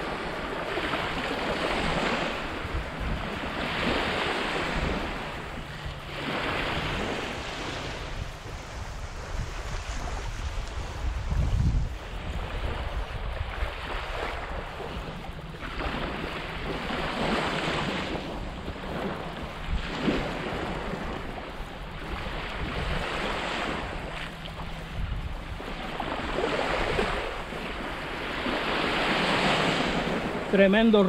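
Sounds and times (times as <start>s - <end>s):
small waves washing onto shore: 0.0s - 31.0s
wind rumbling on microphone: 0.0s - 31.0s.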